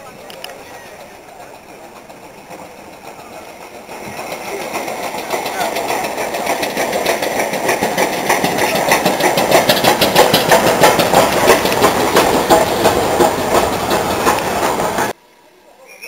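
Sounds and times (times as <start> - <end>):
steam train wheels clattering: 0.0 - 15.2.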